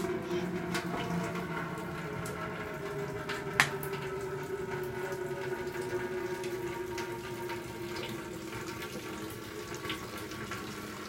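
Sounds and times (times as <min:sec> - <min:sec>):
water running from a hose: 0:00.0 - 0:11.0.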